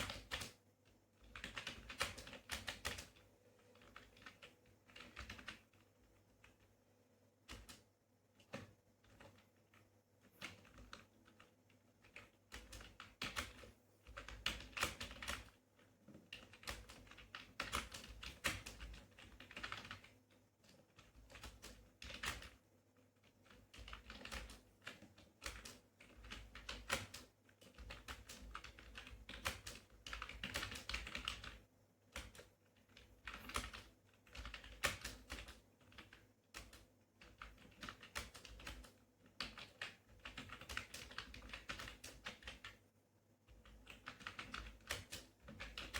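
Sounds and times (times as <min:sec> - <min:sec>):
keyboard typing: 0:00.0 - 0:00.6, 0:01.2 - 0:05.8, 0:08.4 - 0:15.6, 0:16.3 - 0:22.6, 0:23.2 - 0:42.8, 0:43.5 - 0:45.9.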